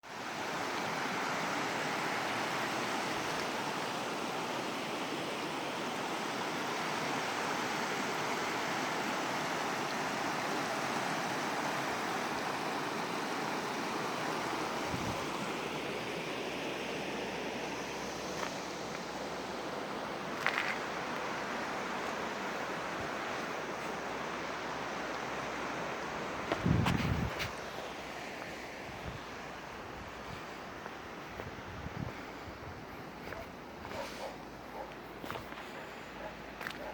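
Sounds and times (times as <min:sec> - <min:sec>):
river rushing: 0:00.0 - 0:36.9.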